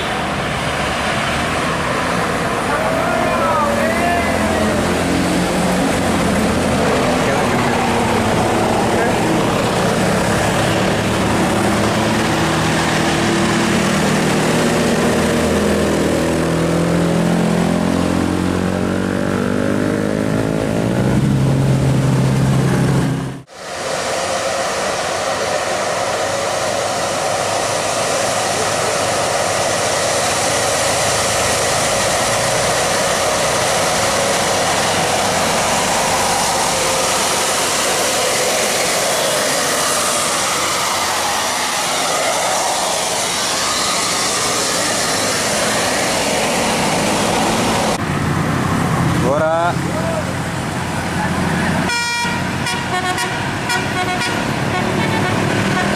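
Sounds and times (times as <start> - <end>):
bus engine accelerating: 0.0 - 55.9
engine and road drone: 0.0 - 55.9.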